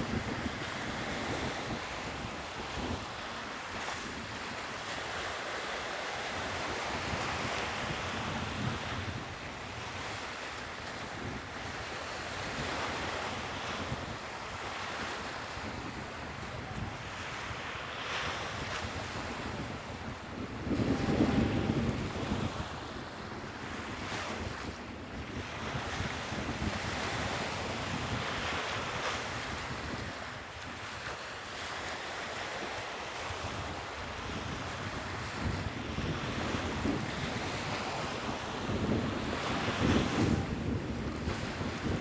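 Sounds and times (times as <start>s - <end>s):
wind buffeting microphone: 0.0s - 5.0s, 6.2s - 31.1s, 33.2s - 42.0s
sea waves washing ashore: 0.0s - 42.0s.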